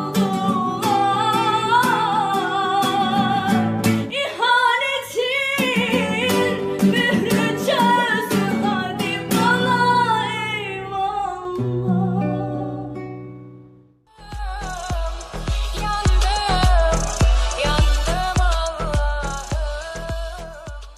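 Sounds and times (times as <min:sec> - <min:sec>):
woman singing: 0:00.0 - 0:13.2, 0:14.1 - 0:20.9
plucked guitar: 0:00.0 - 0:20.9.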